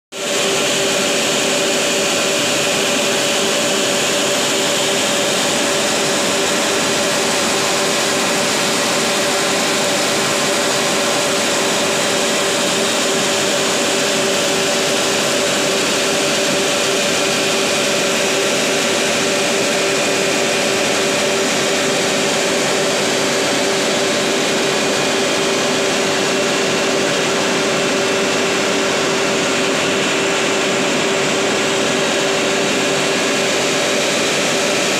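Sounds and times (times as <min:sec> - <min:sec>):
water pumps humming: 0:00.2 - 0:34.9.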